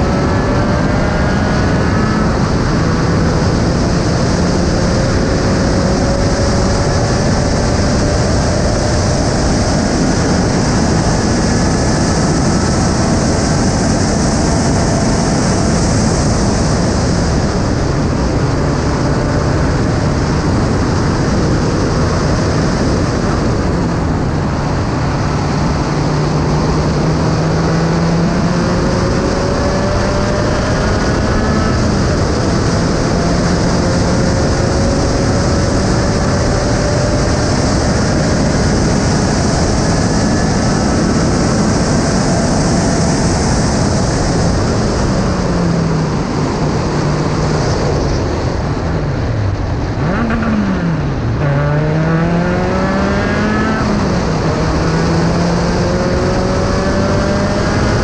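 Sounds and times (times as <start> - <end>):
heavy wind rush: 0.0 - 58.0.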